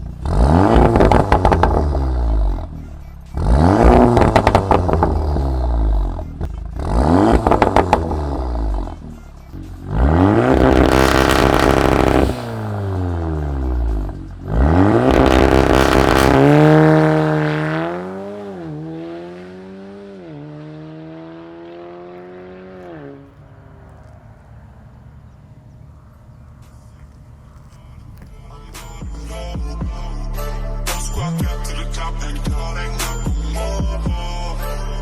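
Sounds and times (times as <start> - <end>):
car engine revving: 0.0 - 30.1.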